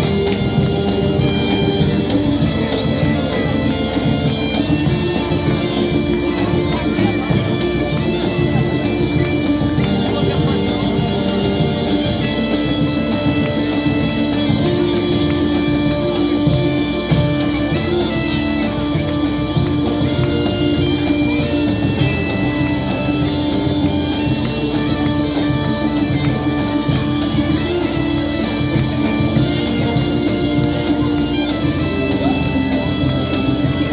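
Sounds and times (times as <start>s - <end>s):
drums beating: 0.0s - 33.9s
folk band drone and melody: 0.0s - 33.9s.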